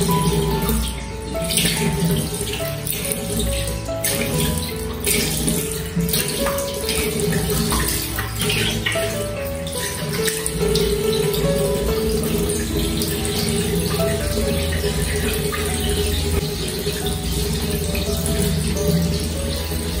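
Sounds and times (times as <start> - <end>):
background music with simple melody: 0.0 - 20.0
water running from a tap: 0.0 - 20.0
water splashing: 0.0 - 20.0.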